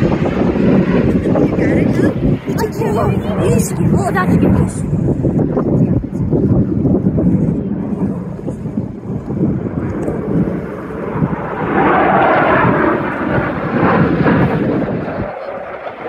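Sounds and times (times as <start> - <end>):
jet roar overhead: 0.0 - 16.0.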